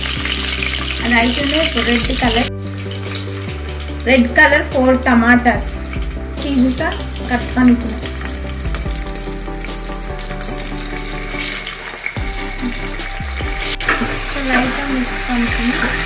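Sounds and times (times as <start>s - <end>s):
background music: 0.0s - 16.0s
oil sizzling: 0.0s - 16.0s.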